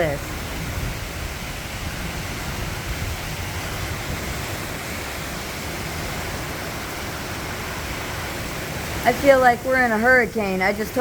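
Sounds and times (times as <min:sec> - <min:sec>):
low thunder rumble: 0:00.0 - 0:10.2
heavy rain: 0:00.0 - 0:11.0
strong wind: 0:00.0 - 0:11.0.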